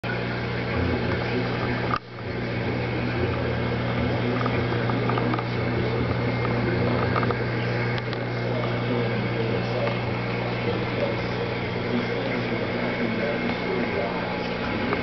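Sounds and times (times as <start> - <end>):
aquarium filter humming: 0.0 - 15.0.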